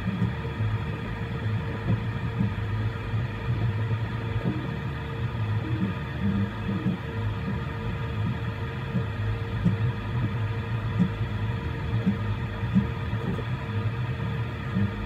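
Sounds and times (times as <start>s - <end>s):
cooling fans humming: 0.0s - 15.0s.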